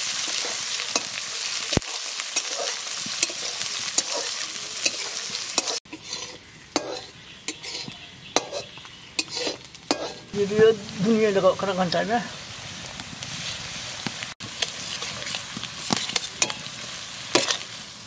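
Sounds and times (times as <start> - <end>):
onions sizzling in hot oil: 0.0 - 18.0
steel spatula scraping wok: 0.1 - 17.9.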